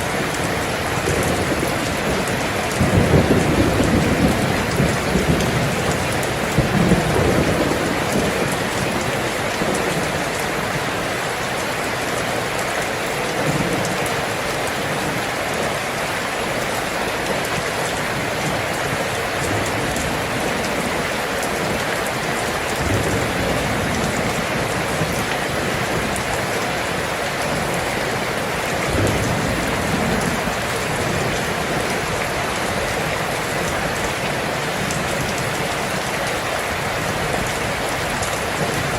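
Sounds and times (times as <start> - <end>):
thunder rumbling: 0.0 - 11.4, 17.2 - 38.9
steady rain falling: 0.0 - 38.9.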